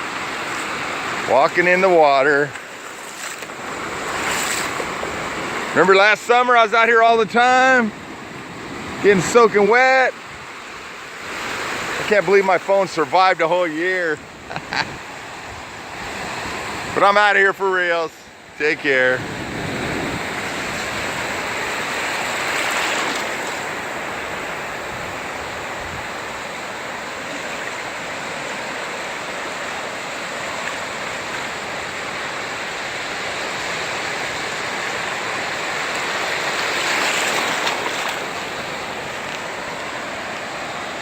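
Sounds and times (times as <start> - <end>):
small waves washing in: 0.0 - 6.4, 7.3 - 17.5, 18.4 - 41.0.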